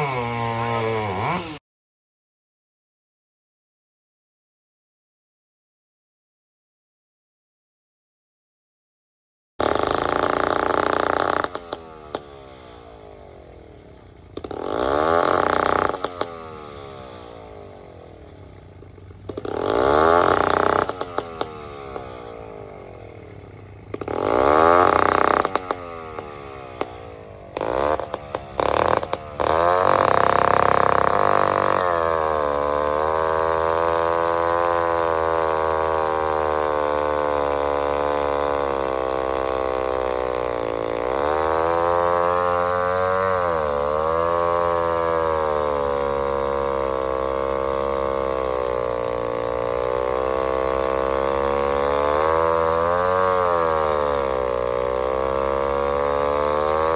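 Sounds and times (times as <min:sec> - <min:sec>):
chainsaw starting and running: 0:00.0 - 0:01.6, 0:09.6 - 0:56.9.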